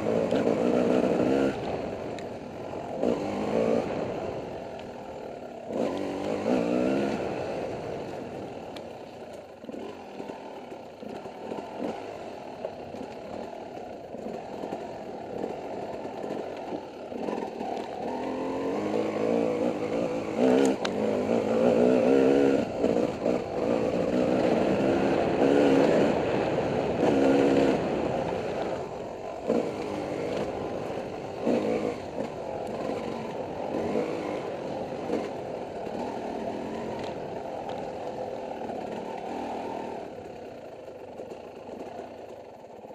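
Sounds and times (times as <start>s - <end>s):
bike rattling over terrain: 0.0s - 42.9s
dirt bike engine revving: 0.0s - 42.9s.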